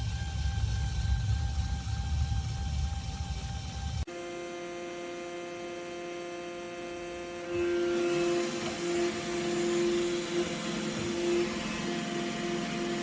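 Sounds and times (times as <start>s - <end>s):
robot vacuum motor hum: 0.0s - 13.0s.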